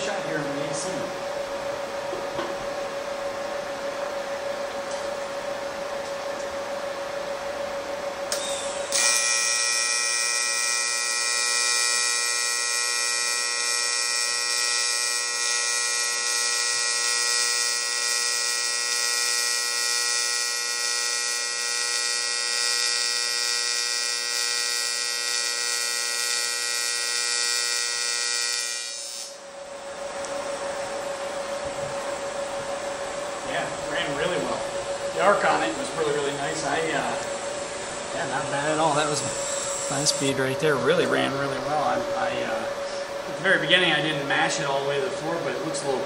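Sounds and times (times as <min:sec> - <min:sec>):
welding arc buzzing: 0:08.2 - 0:46.0.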